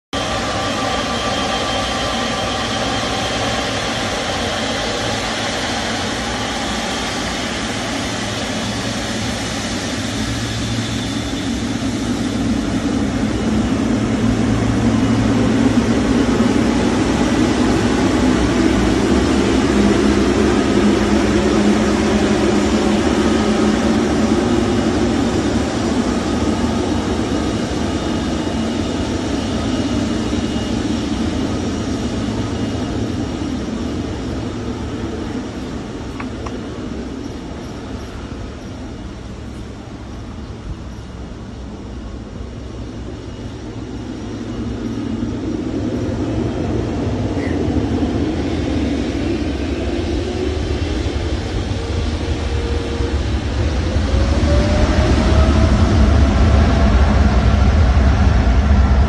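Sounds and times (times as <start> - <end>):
jet engines rumbling: 0.1 - 59.0
high fan whine: 0.2 - 59.0.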